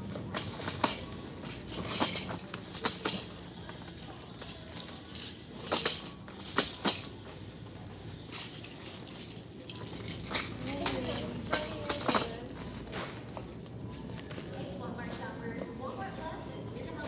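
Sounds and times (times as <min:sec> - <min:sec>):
store background hum: 0:00.0 - 0:17.0.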